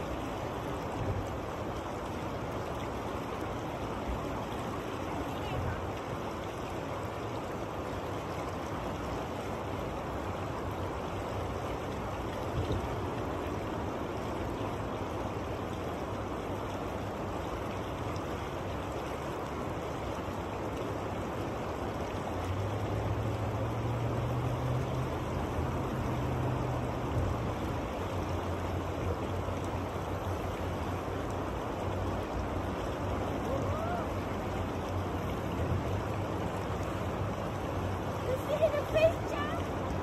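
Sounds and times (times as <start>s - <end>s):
river current rushing: 0.0s - 40.0s.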